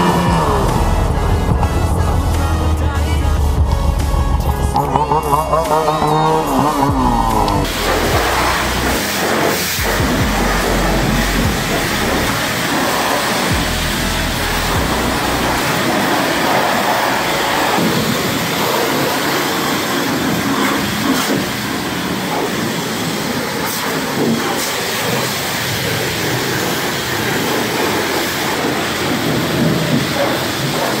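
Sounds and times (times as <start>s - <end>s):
pressure washer spray hiss: 0.0s - 31.0s.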